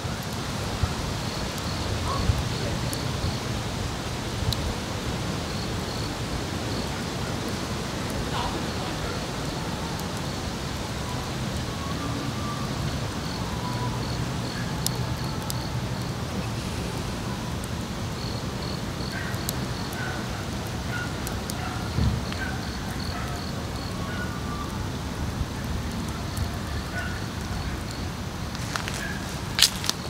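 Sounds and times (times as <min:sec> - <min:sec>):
low rumble and hiss: 0:00.0 - 0:30.0
insect chirping: 0:00.1 - 0:04.2, 0:05.0 - 0:24.8, 0:26.2 - 0:30.0.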